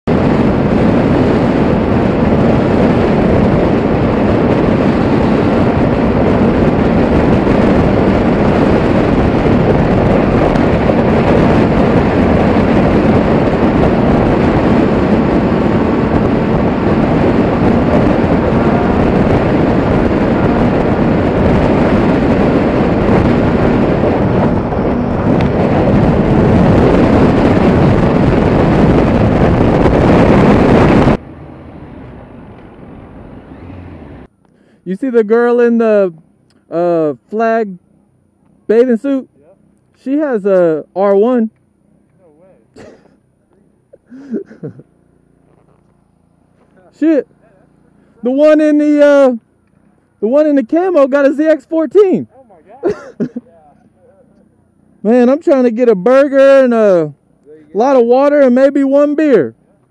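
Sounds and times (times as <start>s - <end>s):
wind buffeting microphone: 0.0s - 59.9s
motorcycle engine running: 0.1s - 59.9s.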